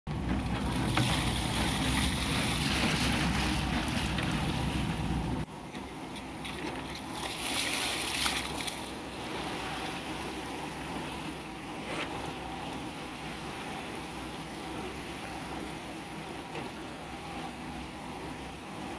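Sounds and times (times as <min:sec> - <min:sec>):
boat engine running: 0:00.1 - 0:18.9
waves lapping at hull: 0:00.1 - 0:18.9
wind: 0:00.1 - 0:18.9.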